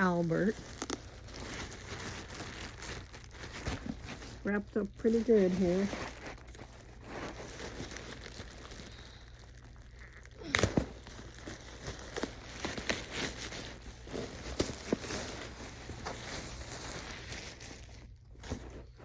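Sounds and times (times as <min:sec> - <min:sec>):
packaging crinkling and tearing: 0:00.0 - 0:19.0.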